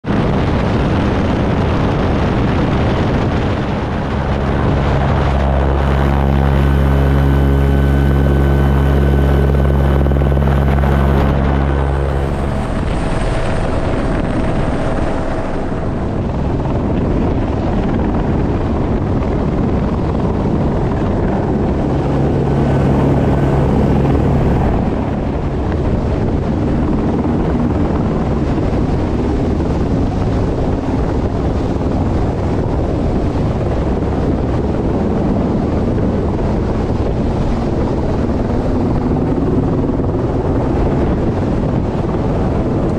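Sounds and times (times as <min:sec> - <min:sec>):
rotor downwash and wind noise: 0:00.0 - 0:42.9
helicopter rotor thrum: 0:00.2 - 0:42.9.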